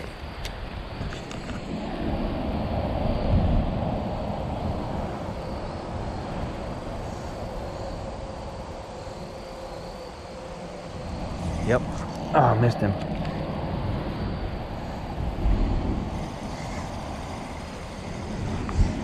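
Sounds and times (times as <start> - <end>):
road rumble: 0.0 - 19.0.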